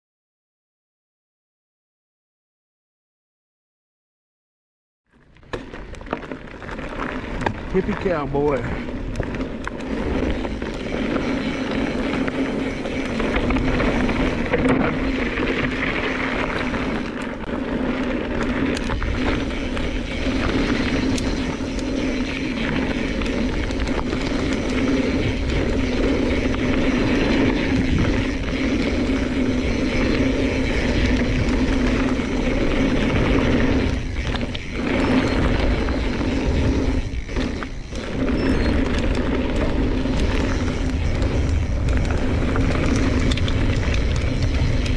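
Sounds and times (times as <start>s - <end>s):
bike tyres humming on dirt: 5.1s - 44.9s
wind rush on microphone: 7.2s - 44.9s.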